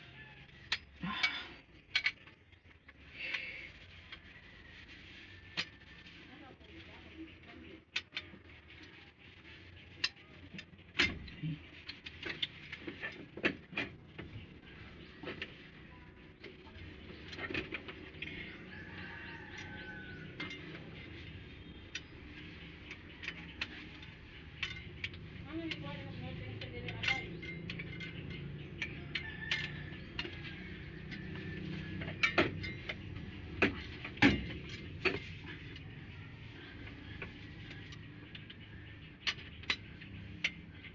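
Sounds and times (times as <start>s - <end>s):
metal tools clicking and knocking: 0.4s - 3.4s, 9.8s - 40.9s.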